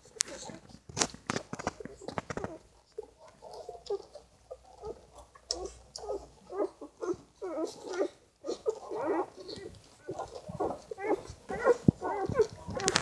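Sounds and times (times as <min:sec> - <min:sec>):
puppies squeaking and whimpering: 0:02.0 - 0:13.0.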